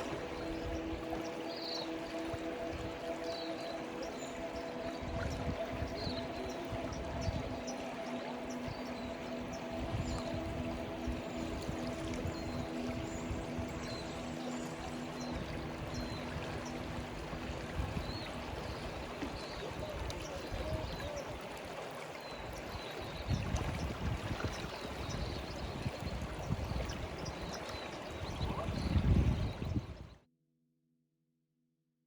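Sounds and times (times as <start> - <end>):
stream water running: 0.0 - 30.1.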